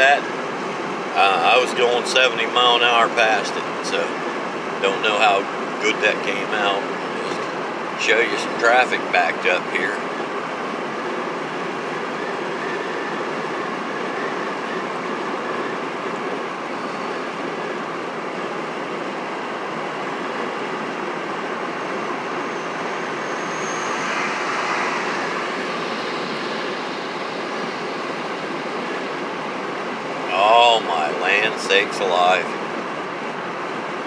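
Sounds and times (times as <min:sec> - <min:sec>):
road and wind noise in car: 0:00.0 - 0:34.0.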